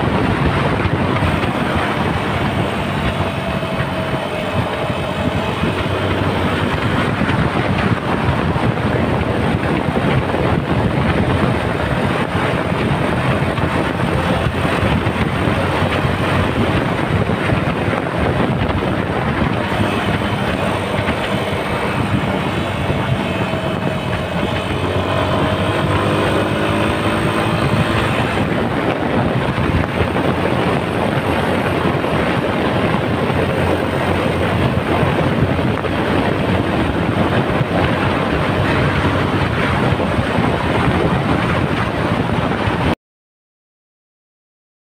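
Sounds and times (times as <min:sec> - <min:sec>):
motorcycle engine running: 0:00.0 - 0:43.0
wind rushing: 0:00.0 - 0:43.0.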